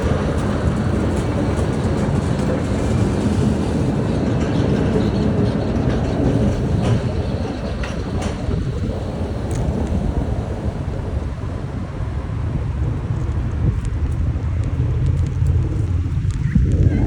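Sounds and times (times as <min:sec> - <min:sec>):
bicycle road and wind noise: 0:00.0 - 0:17.0.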